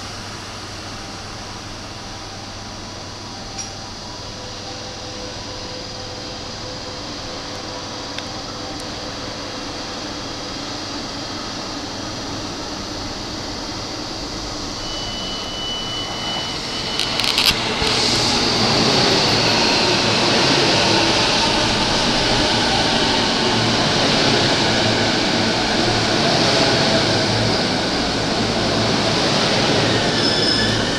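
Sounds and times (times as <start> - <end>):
electric train slowing: 0.0 - 30.9.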